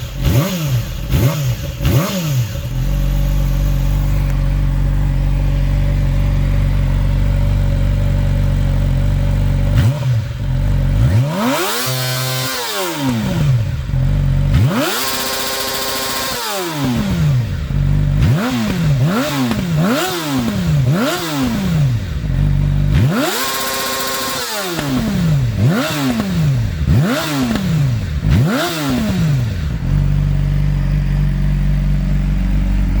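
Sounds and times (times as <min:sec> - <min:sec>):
motorcycle engine idling: 0:00.0 - 0:11.6, 0:12.2 - 0:33.0
motorcycle engine revving: 0:00.0 - 0:33.0.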